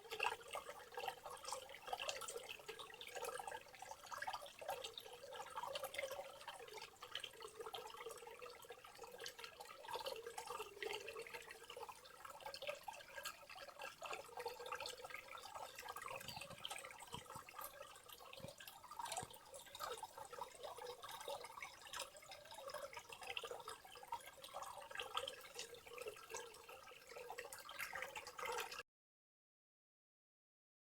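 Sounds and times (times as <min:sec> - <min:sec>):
water dripping and pattering: 0:00.0 - 0:28.8.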